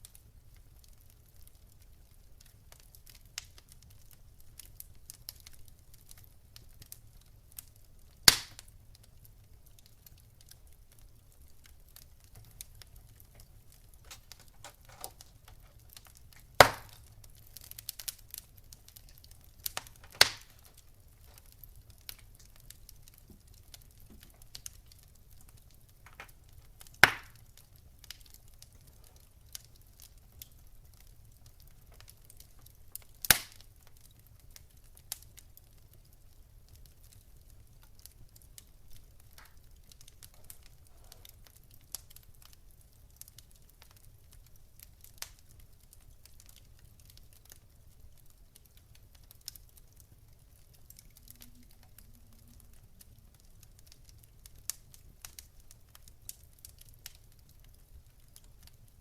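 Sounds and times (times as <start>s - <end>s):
wood fire crackling: 0.0s - 59.0s
sharp pops of fire: 2.4s - 59.0s.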